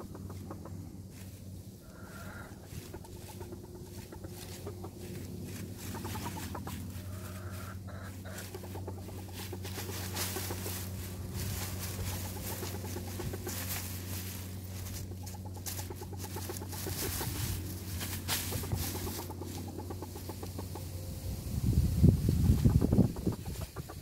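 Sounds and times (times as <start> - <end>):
chickens clucking softly: 0.0 - 21.4, 22.1 - 24.0
dry leaves rustling and crackling: 0.0 - 24.0.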